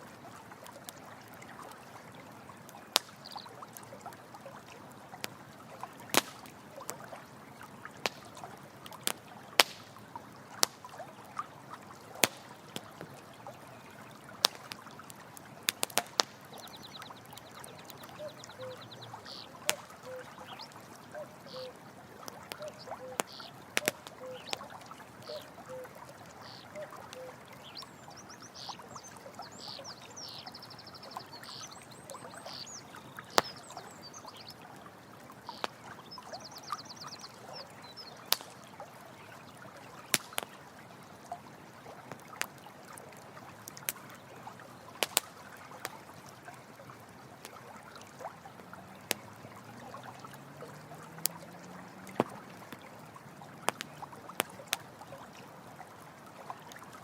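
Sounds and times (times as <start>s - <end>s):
running water: 0.0s - 57.0s
campfire crackling and popping: 2.4s - 41.1s, 41.7s - 46.1s, 48.9s - 49.4s, 50.7s - 55.1s.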